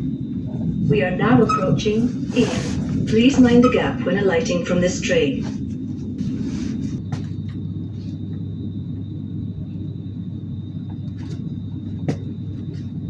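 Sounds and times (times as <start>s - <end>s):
faint high whine: 0.0s - 13.0s
train rumble from inside carriage: 0.0s - 13.0s.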